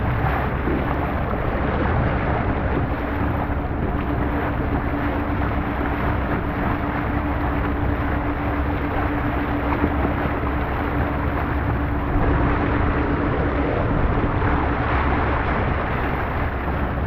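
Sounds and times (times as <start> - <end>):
boat motor running: 0.0 - 17.0
wind buffeting microphone: 0.0 - 17.0.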